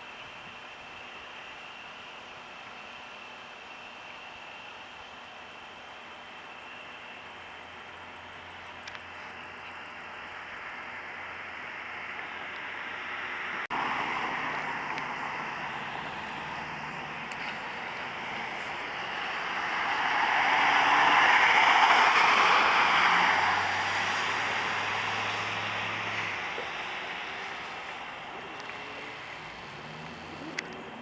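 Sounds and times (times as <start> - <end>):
low engine hum: 0.0 - 31.0
road noise of moving vehicle: 0.0 - 31.0.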